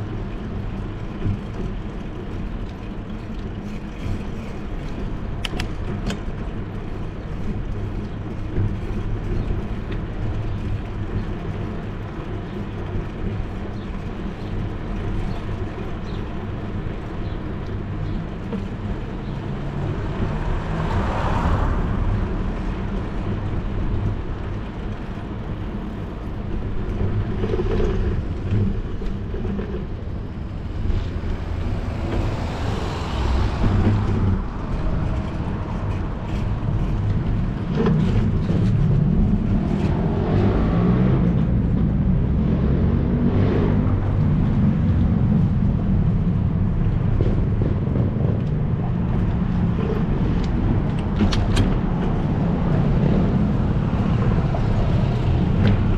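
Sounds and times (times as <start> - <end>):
tyre and road noise: 0.0 - 55.9
wind rumbling on microphone: 0.0 - 55.9.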